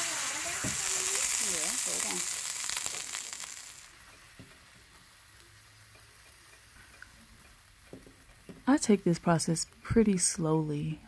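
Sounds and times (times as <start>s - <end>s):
liquid sizzling and bubbling: 0.0s - 11.0s.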